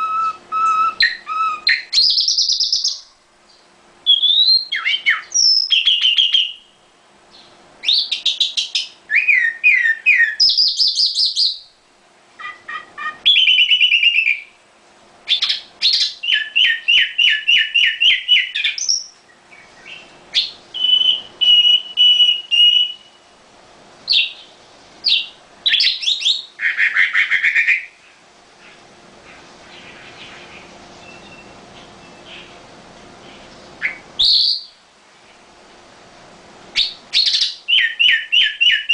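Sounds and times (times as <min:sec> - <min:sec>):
nightingale singing: 0:00.0 - 0:11.8, 0:12.4 - 0:14.6, 0:15.3 - 0:23.3, 0:24.1 - 0:28.0, 0:28.6 - 0:32.6, 0:33.2 - 0:34.8, 0:36.8 - 0:38.9.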